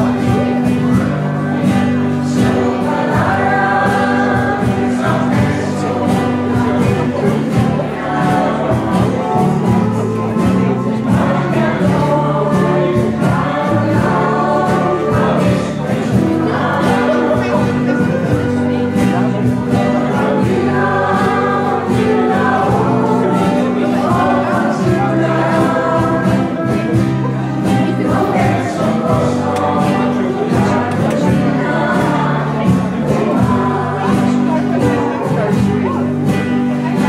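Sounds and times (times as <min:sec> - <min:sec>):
choir singing in unison: 0:00.0 - 0:37.0
live band with steel guitar: 0:00.0 - 0:37.0.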